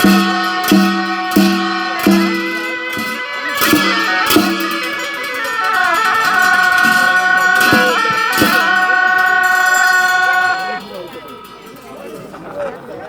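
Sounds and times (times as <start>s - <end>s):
held melody line: 0.0s - 12.2s
drum strokes: 0.0s - 12.6s.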